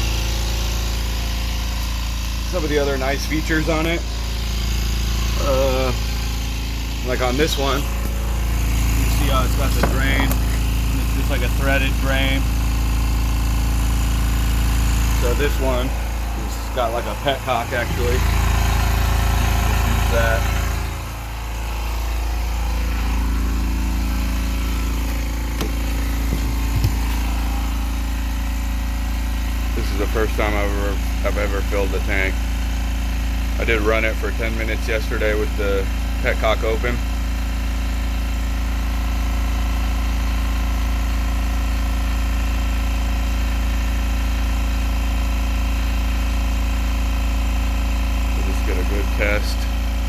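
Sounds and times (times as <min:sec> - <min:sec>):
air compressor running: 0:00.0 - 0:50.0.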